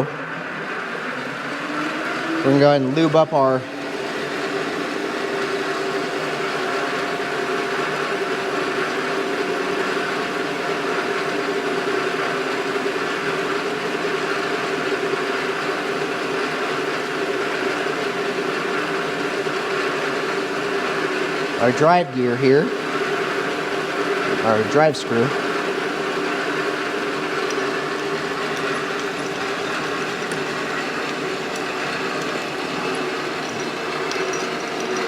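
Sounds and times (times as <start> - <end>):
metal lathe humming: 0.0 - 35.0.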